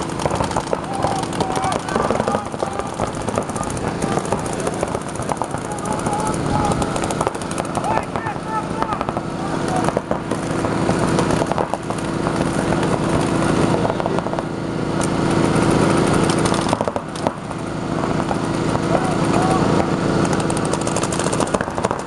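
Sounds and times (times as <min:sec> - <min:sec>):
paintball markers firing rapidly: 0:00.0 - 0:22.0.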